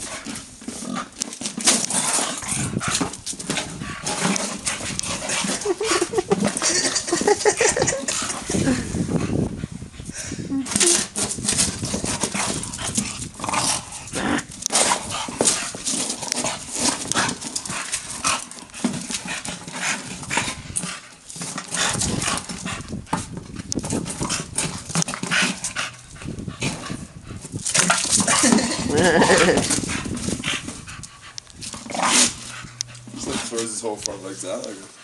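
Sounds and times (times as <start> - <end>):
plastic cone scraping on tiles: 0.0 - 8.9, 10.7 - 33.8
dog grunting breaths: 0.0 - 35.0.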